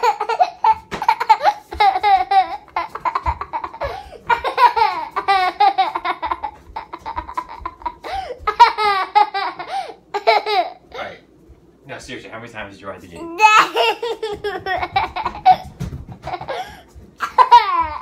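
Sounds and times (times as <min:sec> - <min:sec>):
child laughing: 0:00.0 - 0:10.9, 0:13.2 - 0:18.0.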